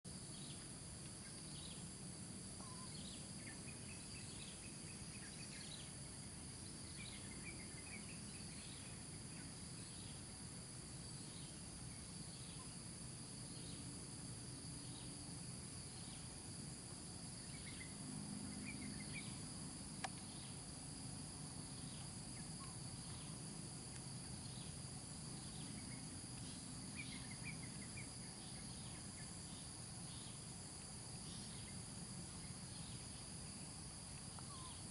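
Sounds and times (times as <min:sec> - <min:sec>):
insect chirps: 0:00.0 - 0:34.9.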